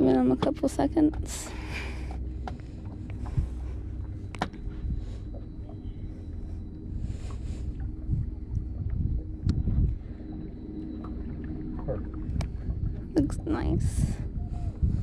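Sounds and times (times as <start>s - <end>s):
faint hum: 0.0s - 15.0s
low steady rumble: 0.0s - 15.0s
water sloshing against boat: 0.0s - 15.0s.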